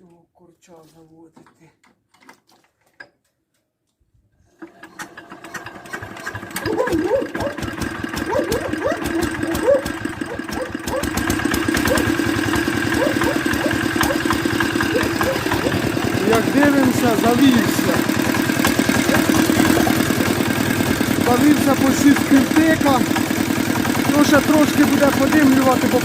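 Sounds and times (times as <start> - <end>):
diesel engine starting: 4.5 - 26.0.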